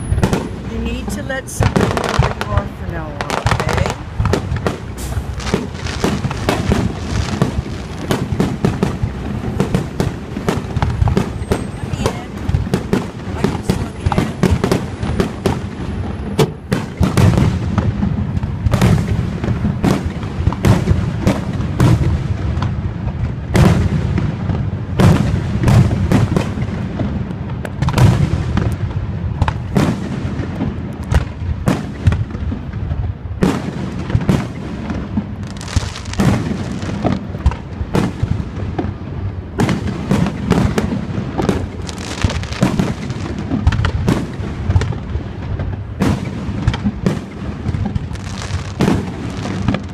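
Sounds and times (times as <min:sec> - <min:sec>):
fireworks booming and crackling: 0:00.0 - 0:49.9.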